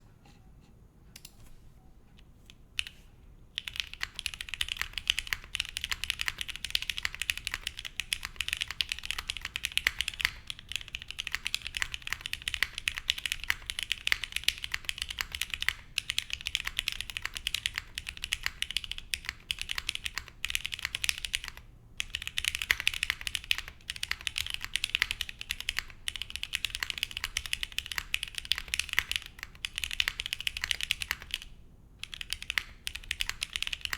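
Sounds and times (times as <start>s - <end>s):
mechanical keyboard typing: 3.6s - 33.9s.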